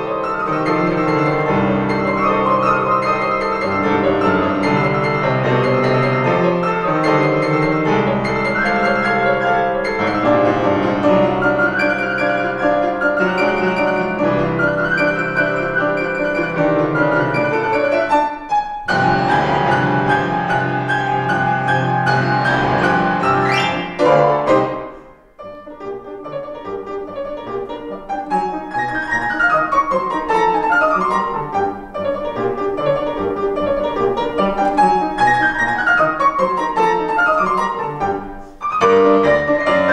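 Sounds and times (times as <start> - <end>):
grand piano playing: 0.0 - 39.9.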